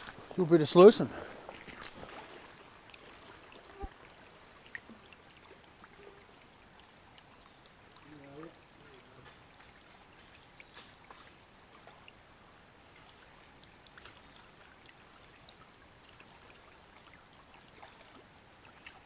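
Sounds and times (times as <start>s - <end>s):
small drips and ticks: 0.0s - 19.0s
water trickling and splashing: 0.0s - 19.0s.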